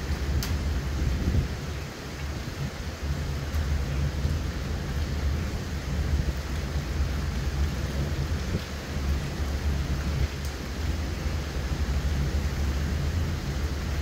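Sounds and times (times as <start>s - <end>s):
hurricane wind: 0.0s - 14.0s
rain hissing: 0.0s - 14.0s.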